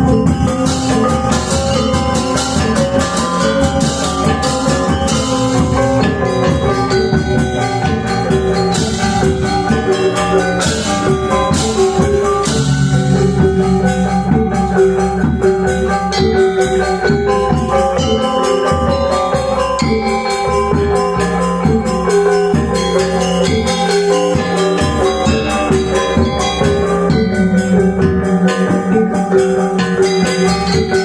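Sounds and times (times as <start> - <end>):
drums: 0.0 - 31.0
gamelan metallophones and gongs: 0.0 - 31.0.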